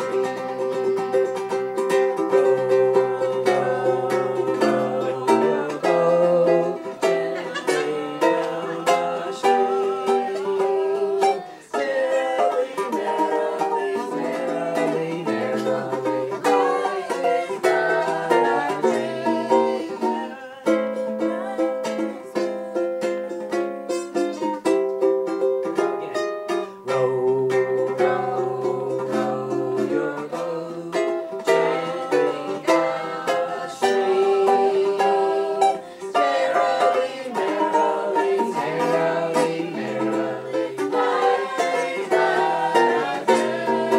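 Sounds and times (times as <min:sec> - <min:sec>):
ukulele playing: 0:00.0 - 0:43.9.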